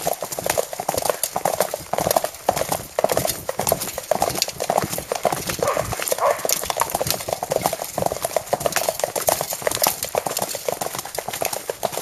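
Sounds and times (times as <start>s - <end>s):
horse hooves clip-clopping: 0.0s - 12.0s.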